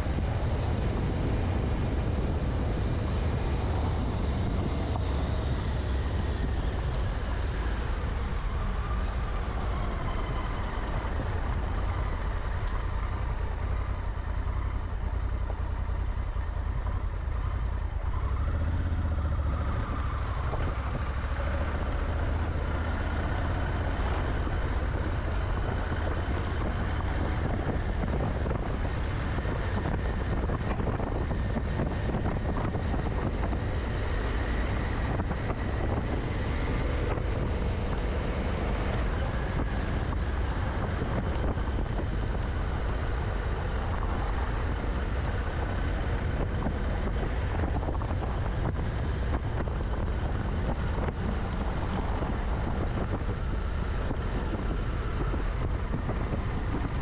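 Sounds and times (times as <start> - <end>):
motorcycle engine running: 0.0 - 57.0
wind rumbling on microphone: 0.0 - 57.0.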